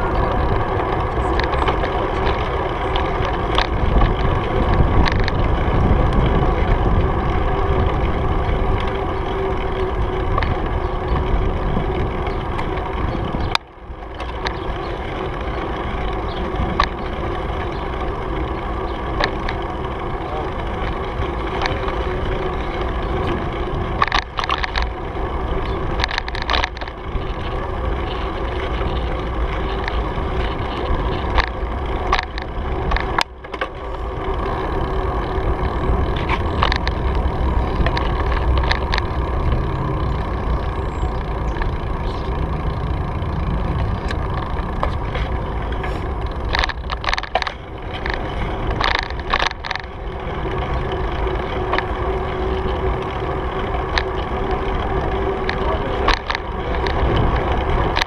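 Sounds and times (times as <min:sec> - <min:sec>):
bicycle rattling over bumps: 0:00.0 - 0:58.0
bicycle tyres rumbling: 0:00.0 - 0:58.0
wind buffeting microphone: 0:00.0 - 0:58.0.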